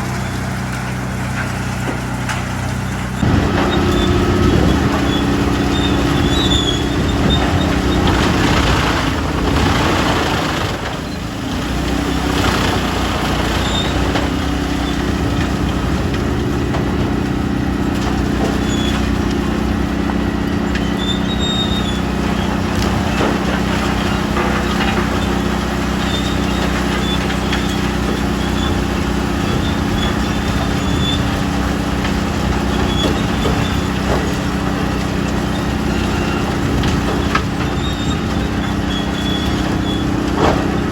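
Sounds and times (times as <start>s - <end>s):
wood chipper chipping logs: 0.0s - 40.9s.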